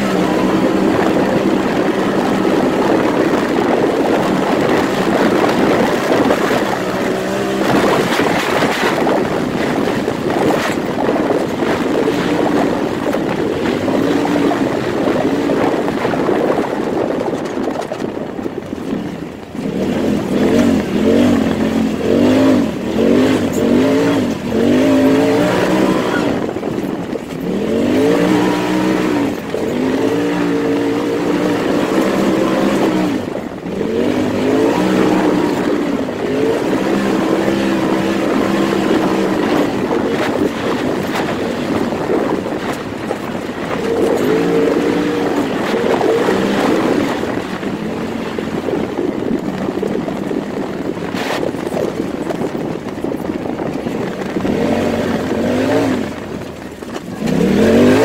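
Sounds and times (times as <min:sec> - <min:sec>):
turbocharged engine revving: 0:00.0 - 0:18.0, 0:18.7 - 0:58.0.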